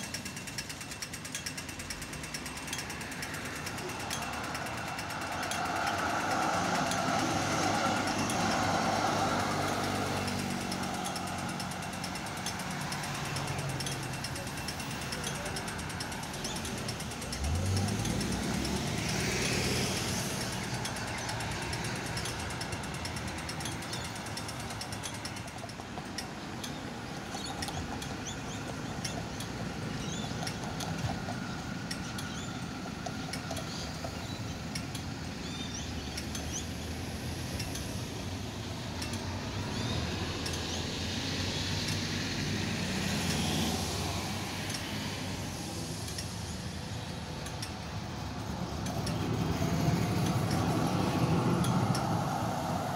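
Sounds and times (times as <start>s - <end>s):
cars passing: 0.0s - 52.9s
motorcycles passing: 0.0s - 52.9s
tram passing on tracks: 0.0s - 52.9s.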